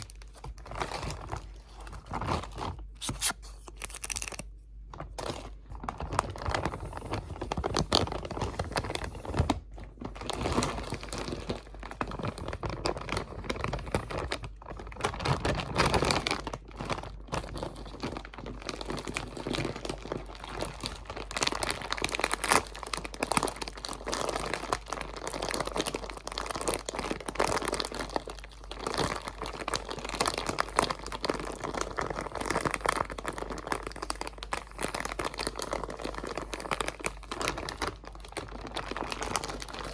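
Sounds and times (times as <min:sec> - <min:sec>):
crinkly material crackling: 0:00.0 - 0:39.9.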